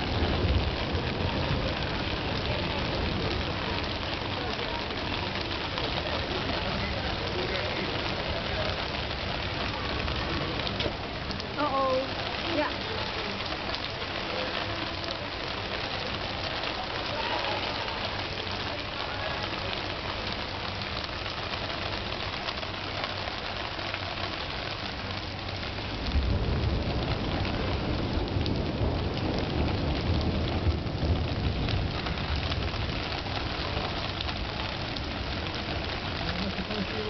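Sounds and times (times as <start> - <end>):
rain on wet paving stones: 0.0 - 37.0.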